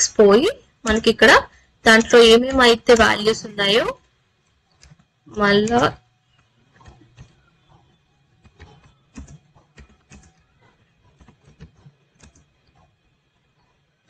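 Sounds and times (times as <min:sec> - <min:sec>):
faint keyboard typing: 0:00.4 - 0:14.0.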